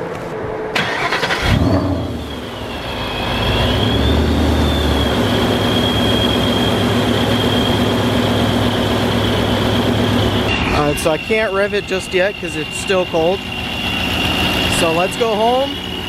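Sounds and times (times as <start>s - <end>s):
high supercharger whine: 0.4s - 16.0s
car engine idling: 0.8s - 16.0s.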